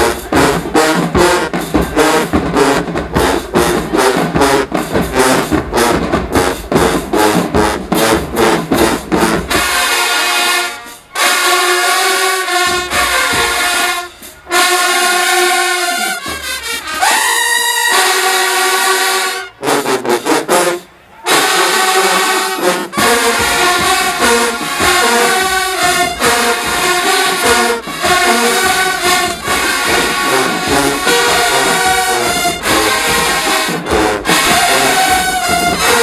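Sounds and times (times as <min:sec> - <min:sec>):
full band rhythmic groove: 0:00.0 - 0:36.0
marching band brass chords: 0:00.0 - 0:36.0.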